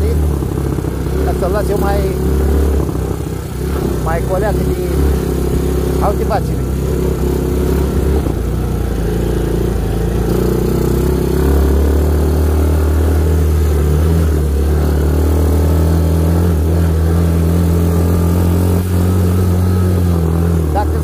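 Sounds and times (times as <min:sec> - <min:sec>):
quad bike engine running: 0:00.0 - 0:21.0.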